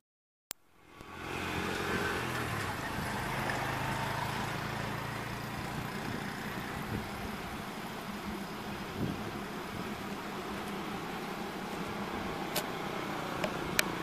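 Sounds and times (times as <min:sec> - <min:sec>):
locomotive engine running: 0:01.0 - 0:14.0.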